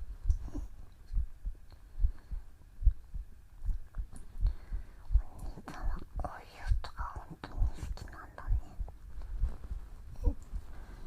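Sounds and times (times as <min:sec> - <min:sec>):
heartbeat thumps: 0:00.0 - 0:11.0.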